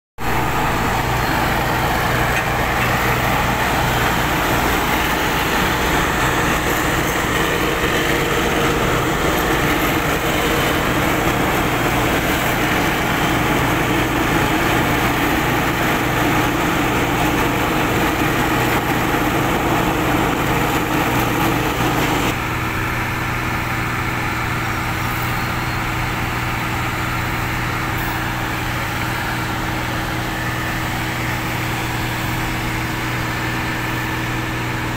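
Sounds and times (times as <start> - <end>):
paver diesel engine and machinery: 0.2 - 34.9.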